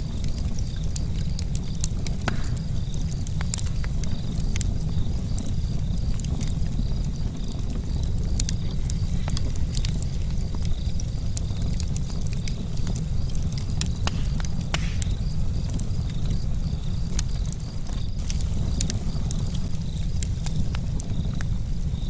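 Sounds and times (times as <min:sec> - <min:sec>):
charcoal crackling and popping: 0:00.0 - 0:22.0.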